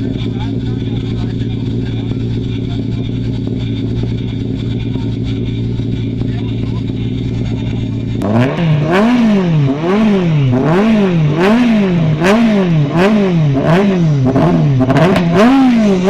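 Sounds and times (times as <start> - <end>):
exhaust pops and crackles: 0.0 - 16.0
rally car engine revving: 0.0 - 16.0.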